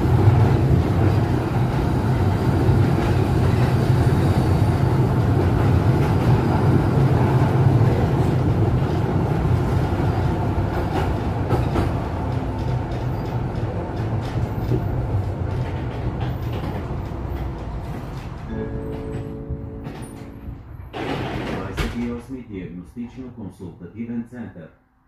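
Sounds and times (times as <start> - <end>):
tram wheels rumbling: 0.0 - 24.2.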